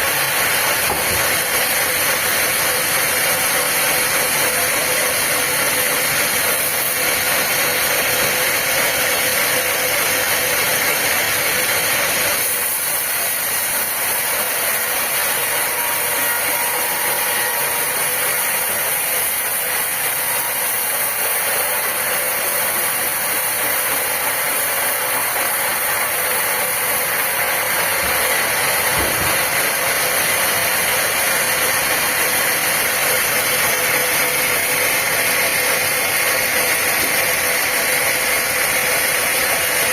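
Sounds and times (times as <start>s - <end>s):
machine noise with hiss: 0.0s - 39.9s.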